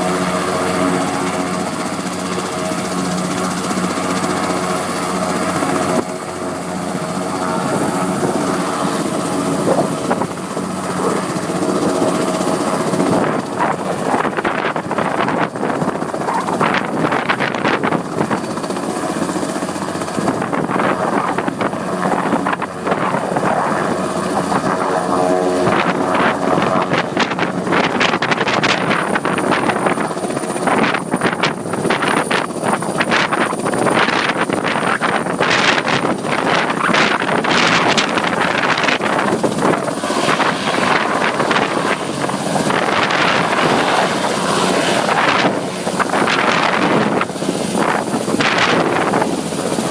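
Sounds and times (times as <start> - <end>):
helicopter rotor and turbine: 0.0 - 49.9.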